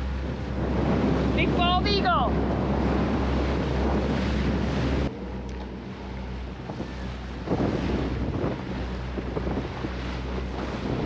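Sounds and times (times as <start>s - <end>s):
motor boat engine drone: 0.0s - 11.0s
water rushing past hull: 0.0s - 11.0s
wind buffeting microphone: 0.0s - 11.0s.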